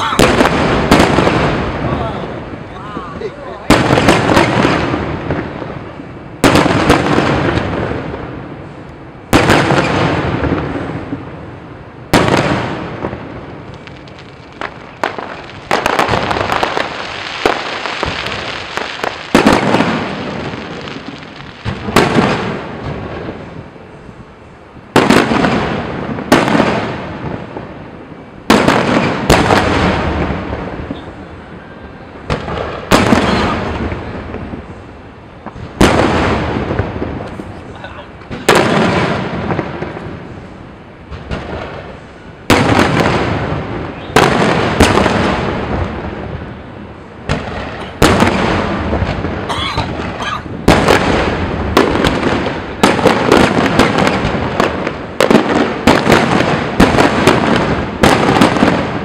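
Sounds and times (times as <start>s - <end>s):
fireworks booming with echo: 0.0s - 59.0s
fireworks crackling: 0.0s - 59.0s.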